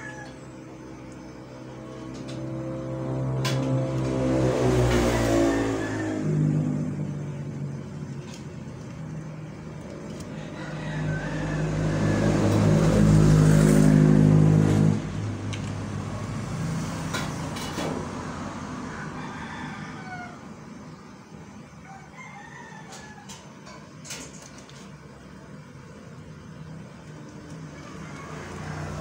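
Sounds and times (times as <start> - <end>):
engine running: 0.0 - 21.8, 23.3 - 29.0.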